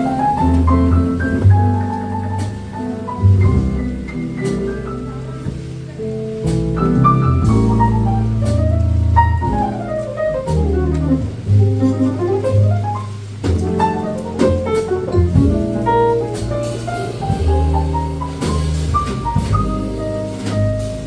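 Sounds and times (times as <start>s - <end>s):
jazz quartet playing ballad: 0.0s - 21.0s.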